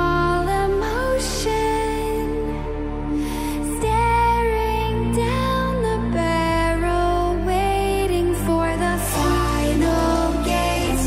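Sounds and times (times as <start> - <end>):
electronic music with synth chords: 0.0 - 11.0.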